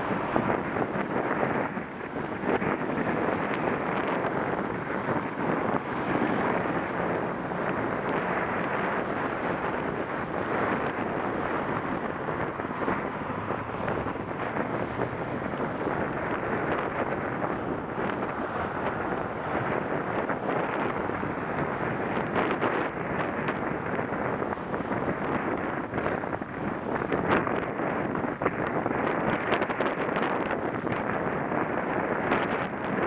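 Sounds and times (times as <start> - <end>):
car traffic: 0.0 - 33.0
wind rushing over microphone: 0.0 - 33.0.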